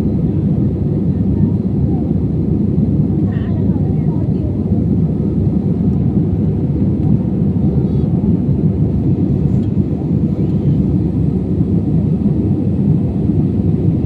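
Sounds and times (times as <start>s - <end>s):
airliner engines rumbling: 0.0s - 14.0s.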